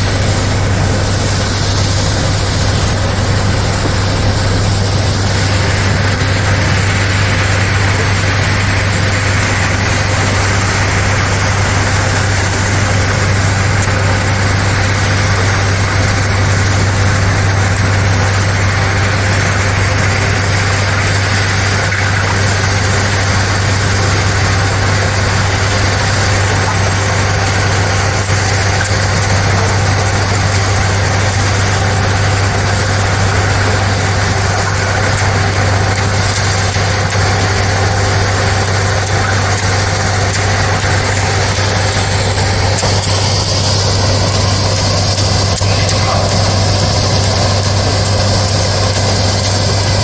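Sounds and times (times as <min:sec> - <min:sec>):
heavy engine humming: 0:00.0 - 0:50.0.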